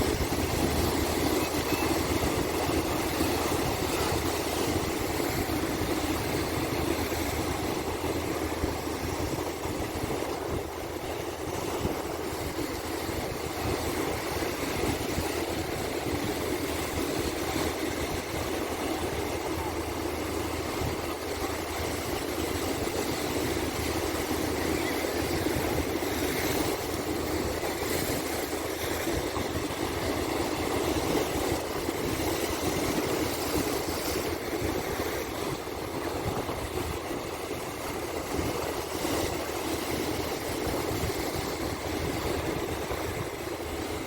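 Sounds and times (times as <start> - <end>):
sea waves washing onto shore: 0.0 - 44.0.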